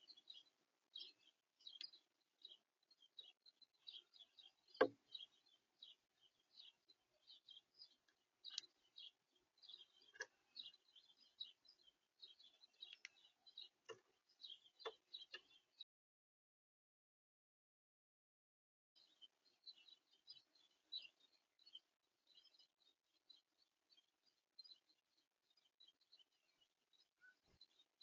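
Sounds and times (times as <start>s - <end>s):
small birds chirping: 0.0s - 15.9s, 19.0s - 28.0s.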